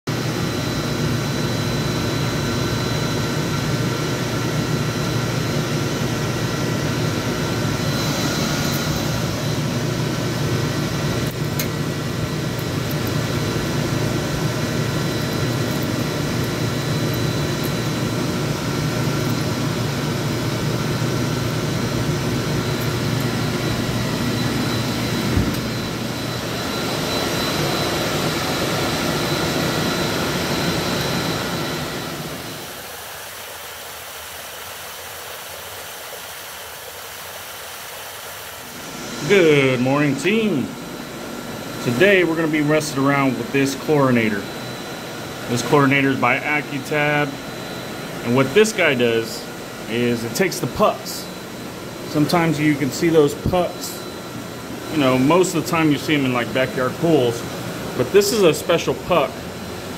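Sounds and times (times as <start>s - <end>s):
machinery droning: 0.1s - 32.8s, 38.6s - 59.9s
thin steady whine: 0.1s - 59.9s.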